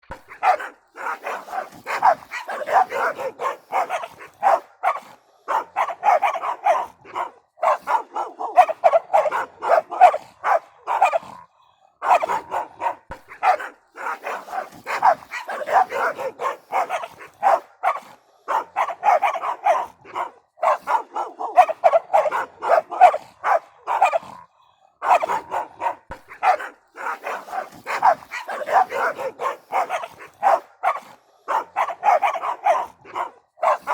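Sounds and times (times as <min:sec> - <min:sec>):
dogs barking: 0:00.1 - 0:33.9.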